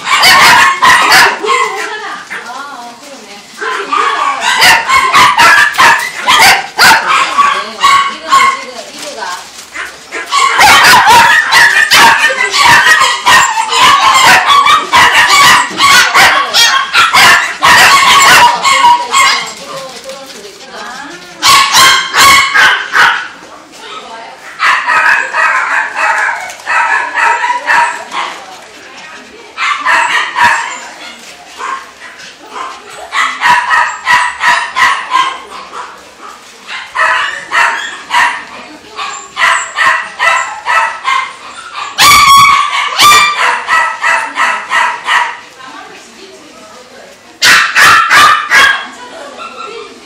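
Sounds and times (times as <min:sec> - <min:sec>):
small dogs barking: 0:00.0 - 0:02.6, 0:03.6 - 0:19.8, 0:21.4 - 0:28.6, 0:29.5 - 0:45.6, 0:47.4 - 0:50.0.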